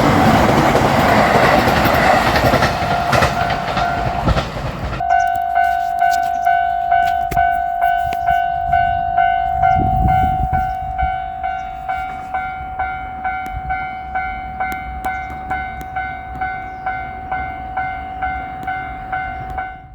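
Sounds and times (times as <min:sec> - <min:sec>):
level crossing alarm clanging: 0:00.0 - 0:19.9.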